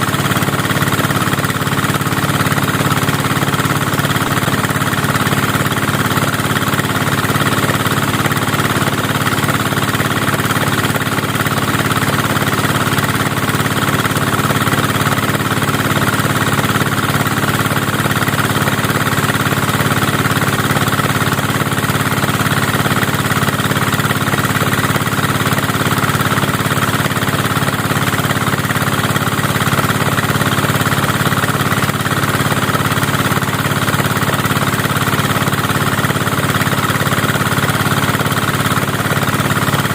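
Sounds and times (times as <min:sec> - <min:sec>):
threshing machine engine running: 0:00.0 - 0:39.9.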